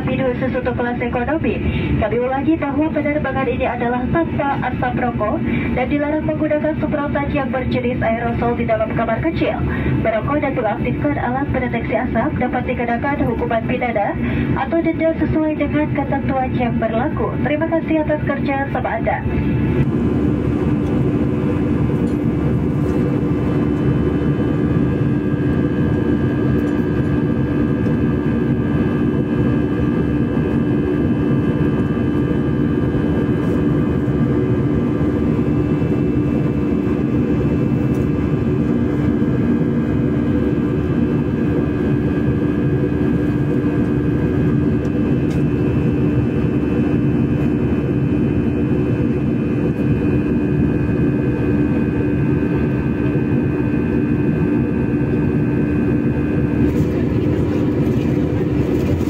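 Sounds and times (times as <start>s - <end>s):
jet engine hum: 0.0s - 59.0s.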